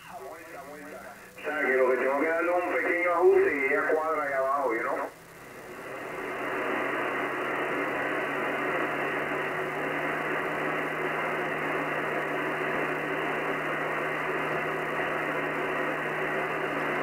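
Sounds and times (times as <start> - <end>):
radio static hiss: 0.0 - 17.0
low hum: 0.9 - 17.0.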